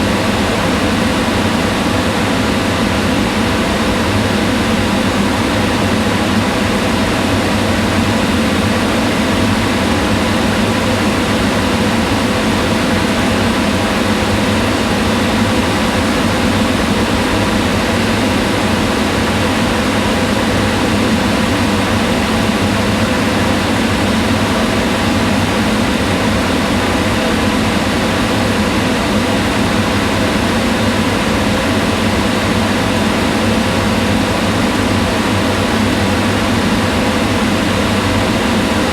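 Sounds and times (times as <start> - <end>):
range hood fan running: 0.0 - 38.9.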